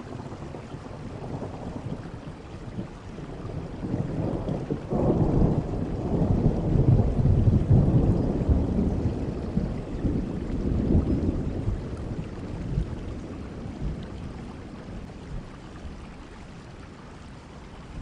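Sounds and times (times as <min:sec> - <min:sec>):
low roll of thunder: 0:00.0 - 0:16.4
rain falling: 0:00.0 - 0:18.0.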